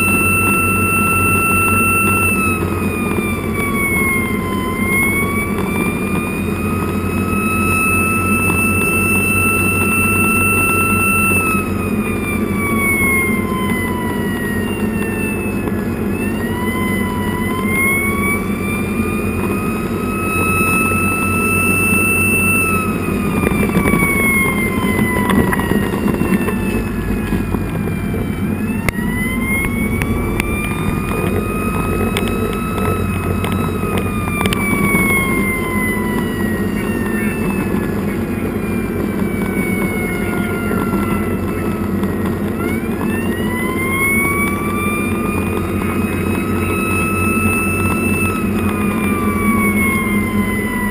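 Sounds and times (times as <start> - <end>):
fire engine siren wailing: 0.0 - 50.9
road noise: 0.0 - 50.9
truck engine running: 0.0 - 50.9.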